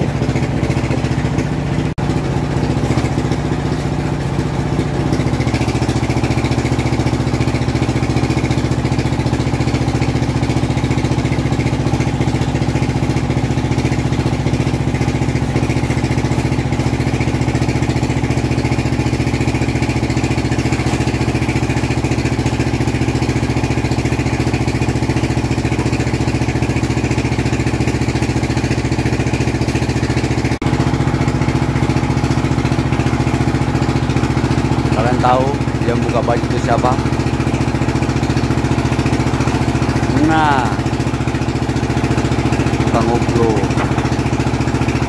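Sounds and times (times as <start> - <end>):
machine engine humming: 0.0 - 45.0.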